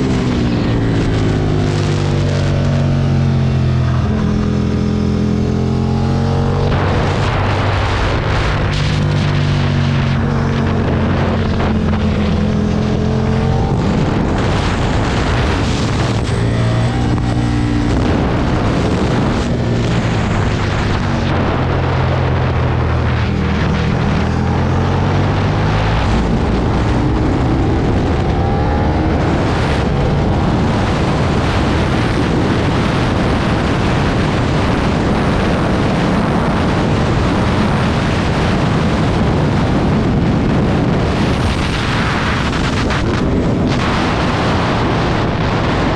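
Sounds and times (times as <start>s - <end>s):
wind rush: 0.0s - 45.9s.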